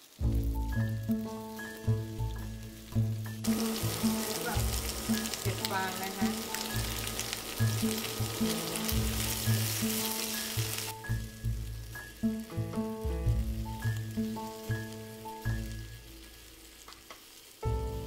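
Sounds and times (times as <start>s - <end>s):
background music: 0.0s - 17.0s, 17.6s - 18.0s
food sizzling in a frying pan: 0.0s - 18.0s.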